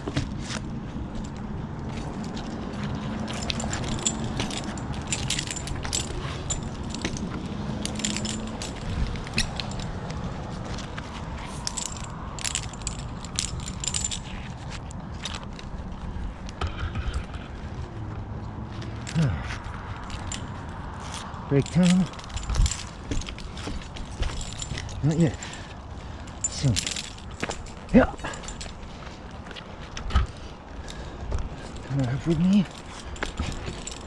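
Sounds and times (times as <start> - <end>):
metal climbing hardware clinking: 0.0 - 18.0, 18.7 - 34.0.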